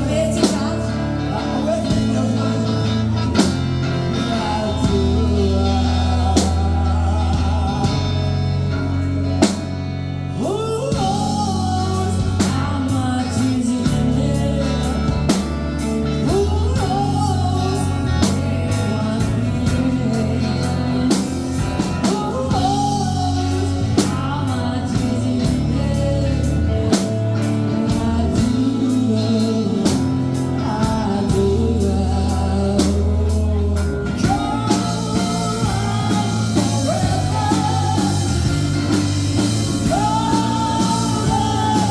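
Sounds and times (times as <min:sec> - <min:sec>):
drum kit steady beat: 0:00.0 - 0:08.7, 0:10.9 - 0:41.9
bass guitar: 0:00.0 - 0:41.9
electric guitar: 0:00.0 - 0:41.9
person singing: 0:00.0 - 0:41.9.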